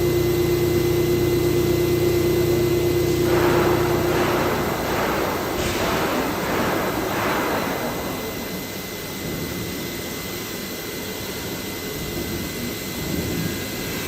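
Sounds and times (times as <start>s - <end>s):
machine whirring: 0.0s - 14.0s.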